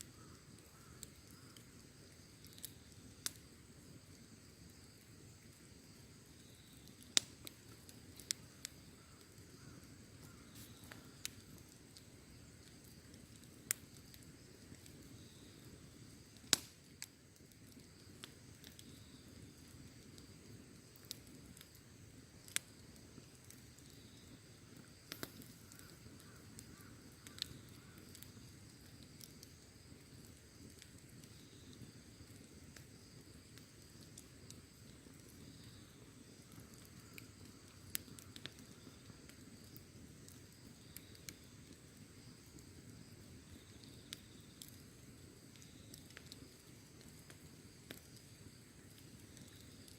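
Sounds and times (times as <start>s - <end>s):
campfire pops and cracks: 0.0s - 49.9s
insect chirring: 0.0s - 49.9s.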